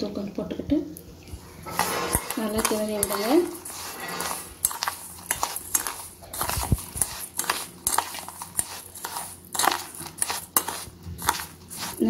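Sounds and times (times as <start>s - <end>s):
metal spoon scraping steel bowl: 1.6s - 12.0s.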